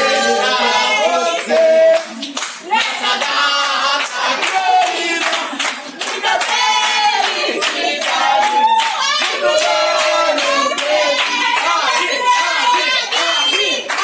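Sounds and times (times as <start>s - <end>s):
group singing a cheer: 0.0s - 14.0s
people clapping along: 0.0s - 14.0s.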